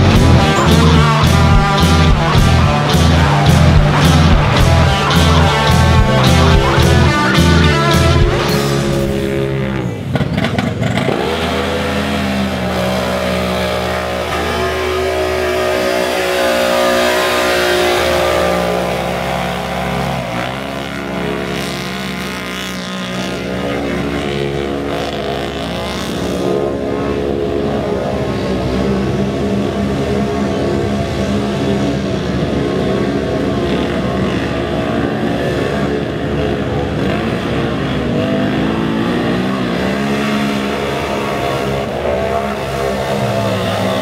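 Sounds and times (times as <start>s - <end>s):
utv engines revving: 0.0s - 44.0s.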